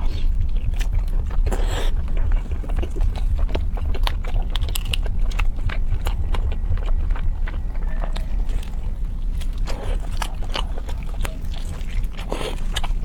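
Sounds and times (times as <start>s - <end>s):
crunchy chewing: 0.0s - 13.0s
steady low hum: 0.0s - 13.0s.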